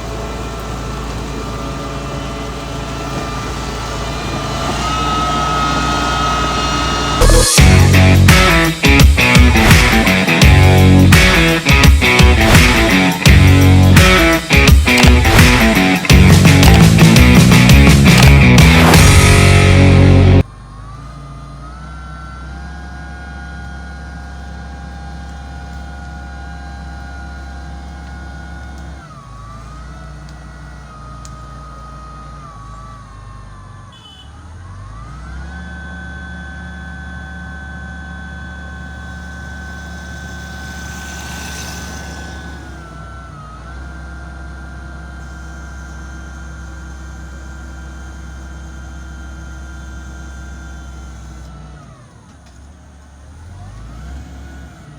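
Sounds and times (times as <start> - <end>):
grader diesel engine whining: 0.0 - 54.9.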